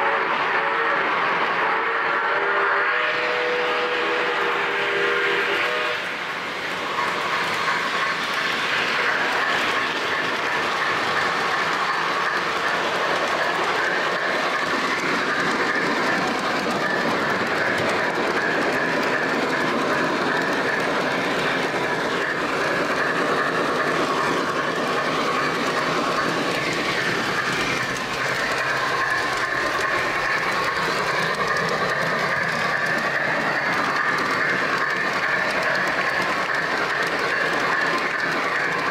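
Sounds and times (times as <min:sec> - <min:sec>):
model train wheels rumbling: 0:02.5 - 0:38.9.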